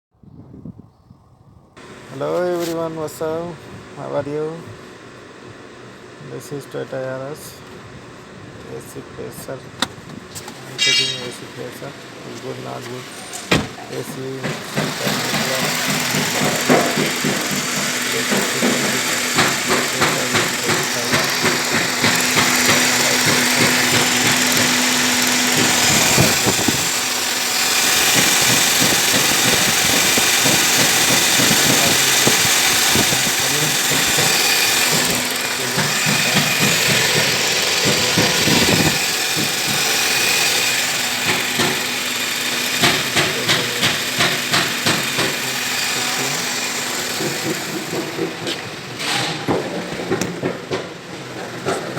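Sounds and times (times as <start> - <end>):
car engine idling: 1.8 - 51.9.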